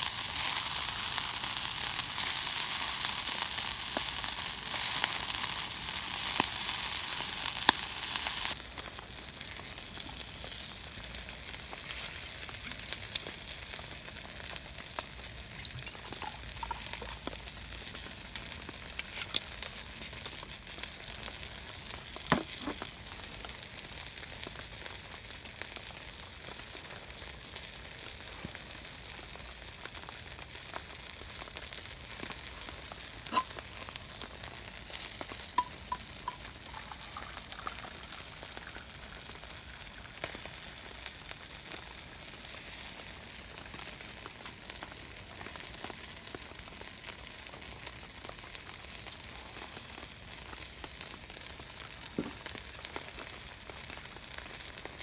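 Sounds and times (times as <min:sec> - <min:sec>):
food sizzling on a grill: 0:00.0 - 0:55.0.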